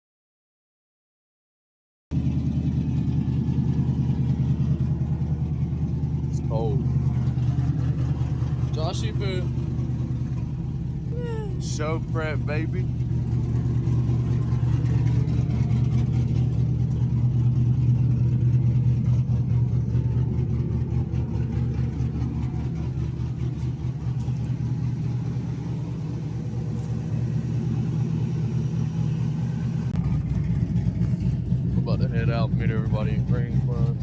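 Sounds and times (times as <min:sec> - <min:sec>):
truck engine rumbling: 0:02.1 - 0:34.0.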